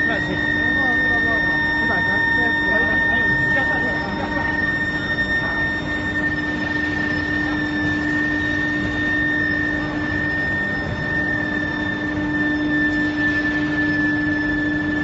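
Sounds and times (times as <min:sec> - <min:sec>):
high-pitched whine: 0:00.0 - 0:15.0
industrial drone: 0:00.0 - 0:15.0.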